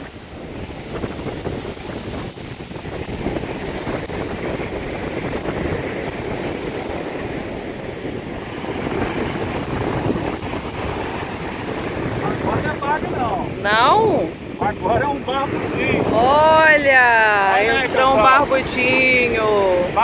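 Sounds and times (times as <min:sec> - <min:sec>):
sea surf washing on beach: 0:00.0 - 0:20.0
wind buffeting microphone: 0:00.0 - 0:20.0.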